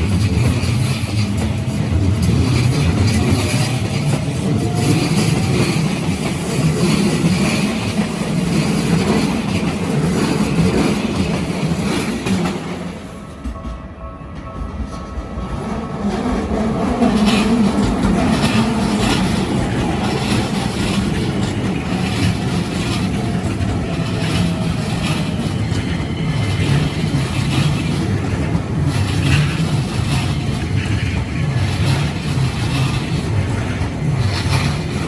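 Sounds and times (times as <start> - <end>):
electric train rumbling past: 0.0 - 35.0.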